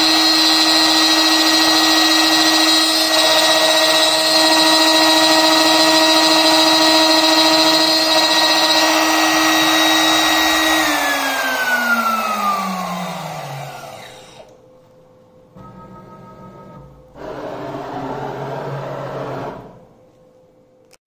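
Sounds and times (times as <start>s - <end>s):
router spindle whining: 0.0s - 14.6s, 17.2s - 19.9s.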